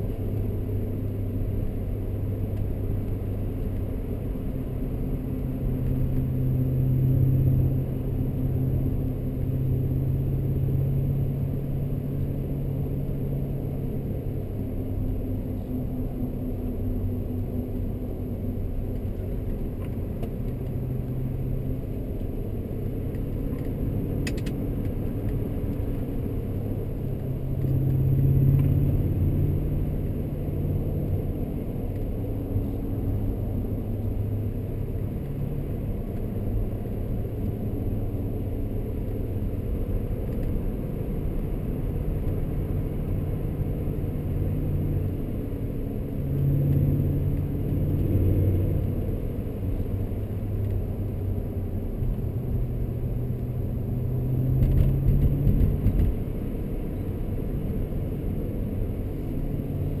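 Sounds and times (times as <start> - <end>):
road rumble: 0.0 - 60.0.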